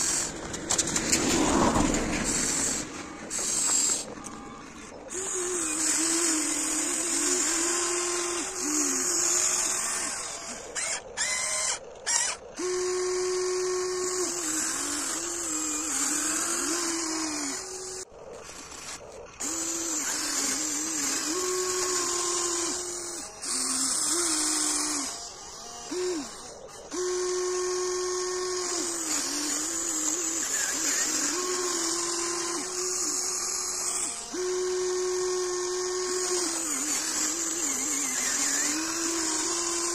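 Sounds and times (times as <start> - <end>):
toy excavator motors whining: 0.0 - 39.9.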